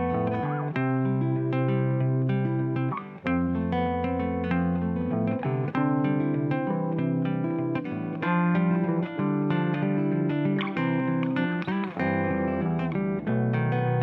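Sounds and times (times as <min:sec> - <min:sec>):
plucked guitar music with bass: 0:00.0 - 0:14.0.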